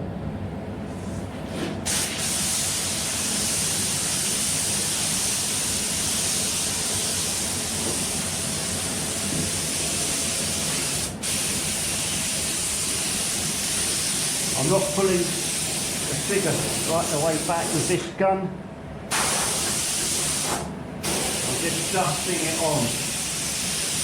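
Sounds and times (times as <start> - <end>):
spray gun hissing: 1.9 - 18.0, 19.1 - 24.0.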